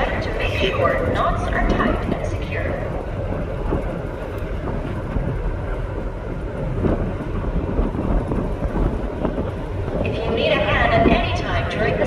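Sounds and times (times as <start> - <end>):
ferry rumbling: 0.0 - 12.0.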